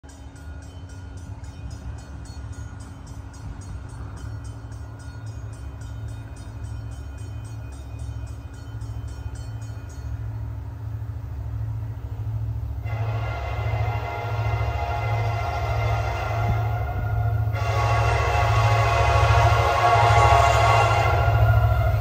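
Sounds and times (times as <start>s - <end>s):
distant freight train rumble: 0.0s - 22.0s.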